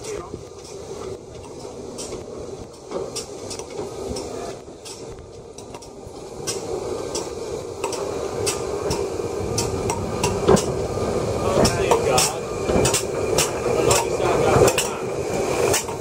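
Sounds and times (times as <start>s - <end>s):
steady background noise: 0.0s - 16.0s
steam locomotive wheels clanking: 0.0s - 16.0s.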